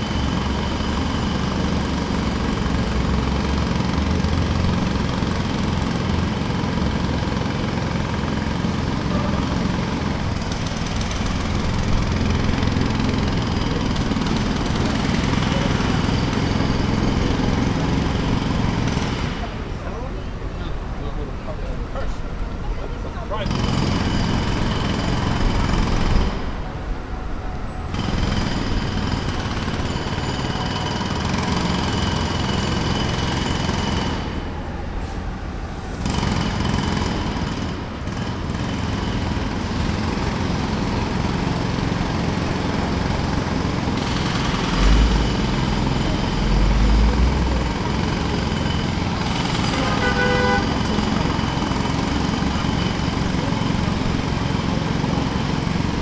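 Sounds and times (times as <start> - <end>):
jackhammer breaking pavement: 0.0 - 20.1, 23.3 - 26.6, 27.8 - 34.9, 36.0 - 56.0
traffic noise: 0.0 - 56.0.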